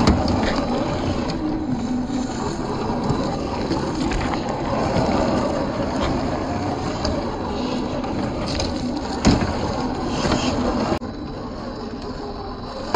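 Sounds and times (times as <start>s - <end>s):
stones clicking under tyres: 0.0s - 11.0s.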